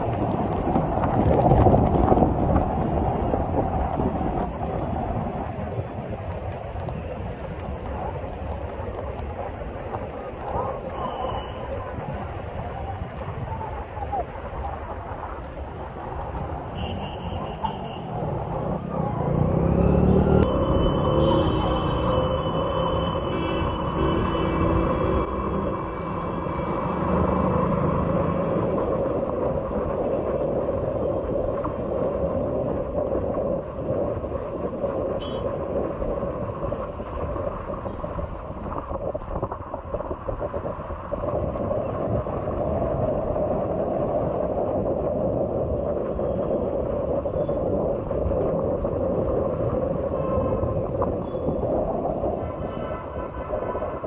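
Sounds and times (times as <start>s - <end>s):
heavy rain: 0.0s - 54.0s
tyres on wet road: 0.0s - 54.0s
wind noise: 0.0s - 54.0s.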